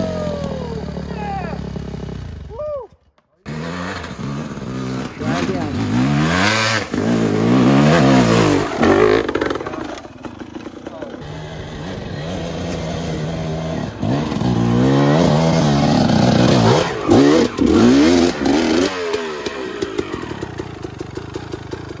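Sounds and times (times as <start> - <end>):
dirt bike engine revving: 3.4 - 22.0.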